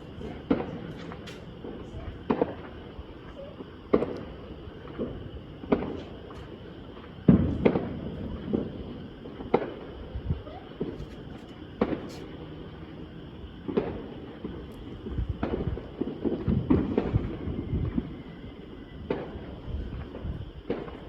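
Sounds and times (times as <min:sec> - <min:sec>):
fireworks and firecrackers bangs: 0:00.0 - 0:21.0.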